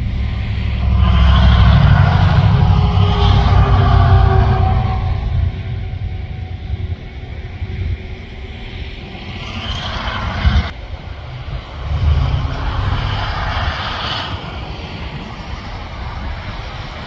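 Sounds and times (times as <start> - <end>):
distant airplane engine droning: 0.0 - 17.0
wind rumble on microphone: 0.0 - 17.0.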